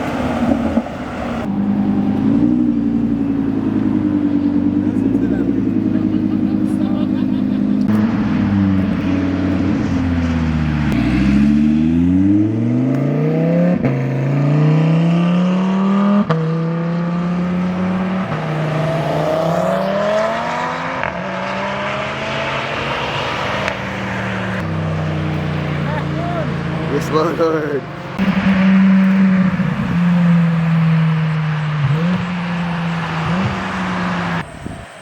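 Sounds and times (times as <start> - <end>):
car engine accelerating hard: 0.0 - 34.5.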